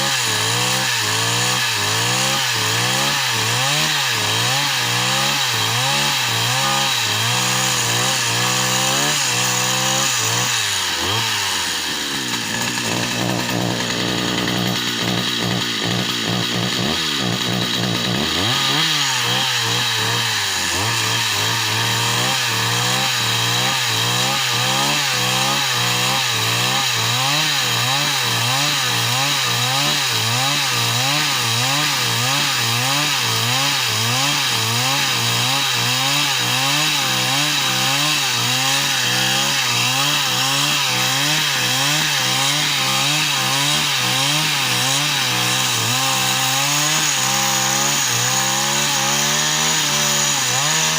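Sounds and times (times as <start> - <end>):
chainsaw running: 0.0 - 50.9.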